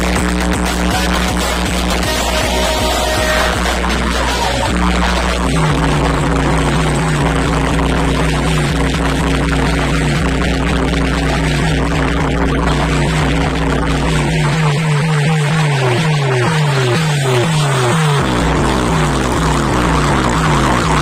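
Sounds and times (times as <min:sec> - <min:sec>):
very deep bass drone: 0:00.0 - 0:21.0.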